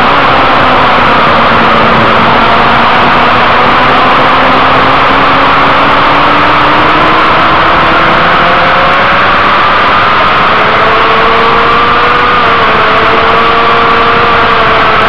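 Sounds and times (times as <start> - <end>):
motorcycle engine accelerating: 0.0 - 15.0
wind rush on microphone: 0.0 - 15.0.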